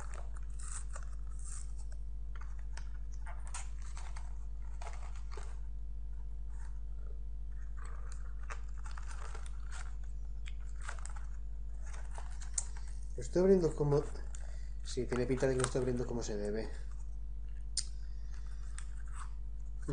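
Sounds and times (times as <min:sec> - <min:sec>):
snack packaging crackling: 0:00.0 - 0:05.7, 0:06.5 - 0:16.9
steady low hum: 0:00.0 - 0:19.9.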